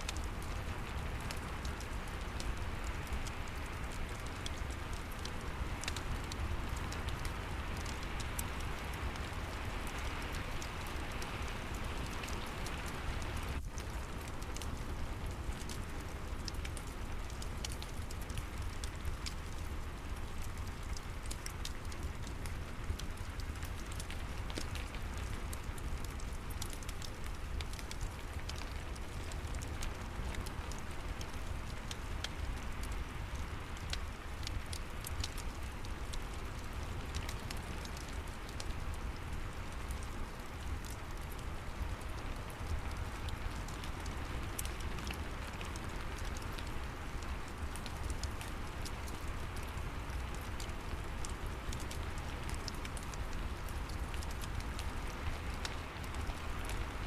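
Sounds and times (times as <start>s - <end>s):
fireplace crackling: 0.0s - 57.0s
steady rain: 0.0s - 57.0s.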